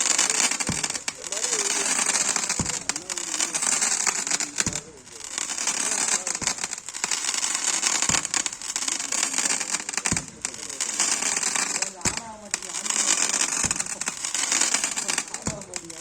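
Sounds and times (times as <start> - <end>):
dense firework crackling: 0.0 - 16.0
firework shots thumping: 0.0 - 16.0.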